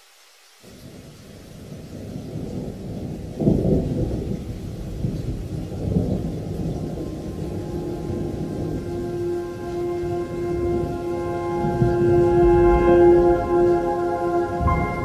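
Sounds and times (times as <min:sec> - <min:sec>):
low thunder-like rumble: 0:00.9 - 0:15.0.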